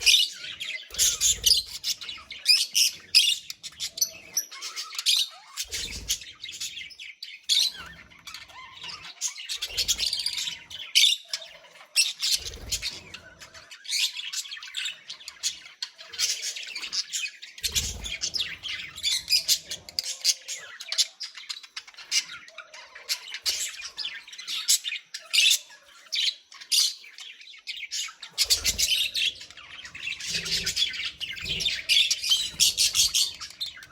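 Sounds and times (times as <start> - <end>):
budgerigars chattering and warbling: 0.0 - 33.9.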